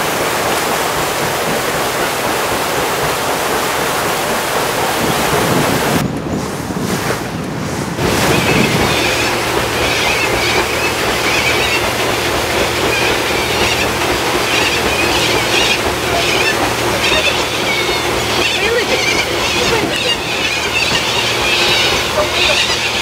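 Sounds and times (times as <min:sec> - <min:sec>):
boat engine humming: 0:00.0 - 0:23.0
wind and water rushing: 0:00.0 - 0:23.0.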